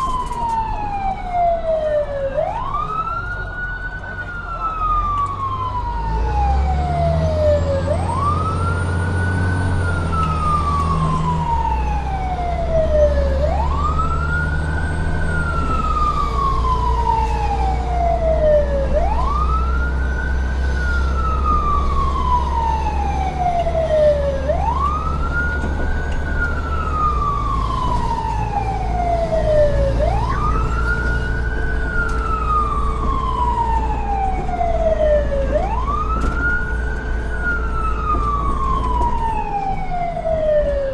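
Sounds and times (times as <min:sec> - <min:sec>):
siren wailing: 0:00.0 - 0:40.9.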